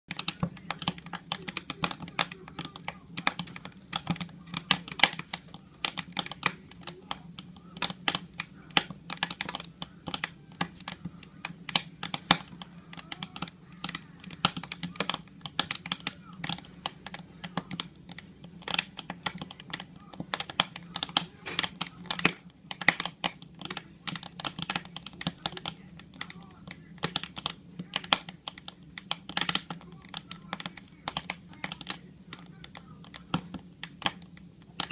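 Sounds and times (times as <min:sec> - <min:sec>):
firewood crackling in a stove: 0:00.1 - 0:34.9
low steady hum: 0:00.1 - 0:34.9.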